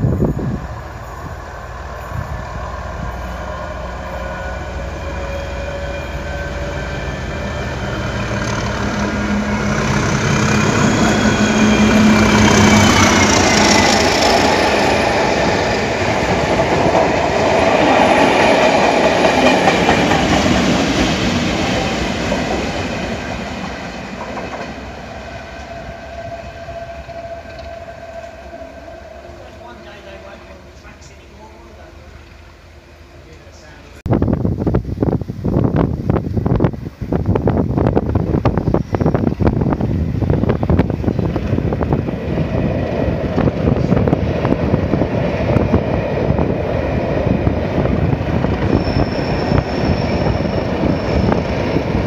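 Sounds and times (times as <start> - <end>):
train wheels on rails: 0.0 - 34.0, 35.7 - 52.0
diesel locomotive engine passing: 0.0 - 34.1, 36.0 - 52.0.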